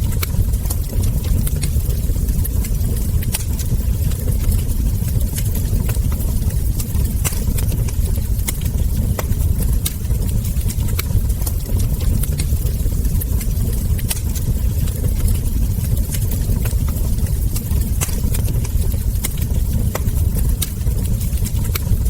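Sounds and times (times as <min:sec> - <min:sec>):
low rumble of burning logs: 0:00.0 - 0:22.0
wood fire crackling: 0:00.0 - 0:22.0.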